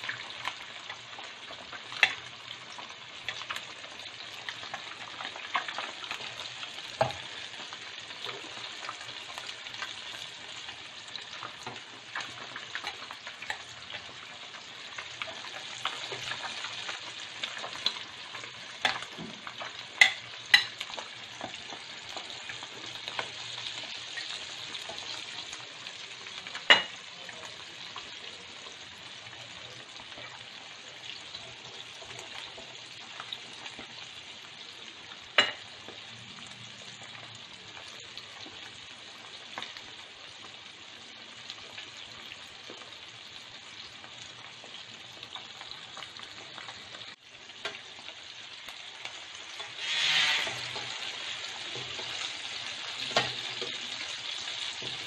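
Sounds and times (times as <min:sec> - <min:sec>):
deep-frying oil sizzling: 0:00.0 - 0:55.0.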